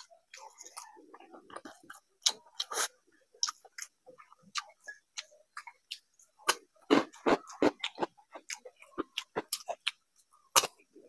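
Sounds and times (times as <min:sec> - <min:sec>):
chewing soft food: 0:00.0 - 0:11.0.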